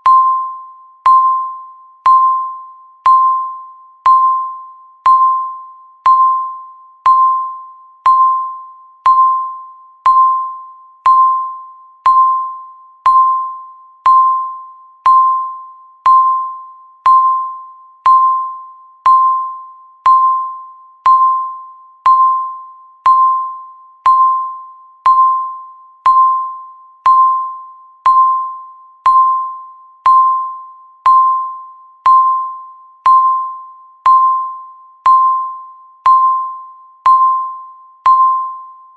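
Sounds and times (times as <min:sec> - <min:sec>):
countdown timer beeping: 0:00.0 - 0:38.8.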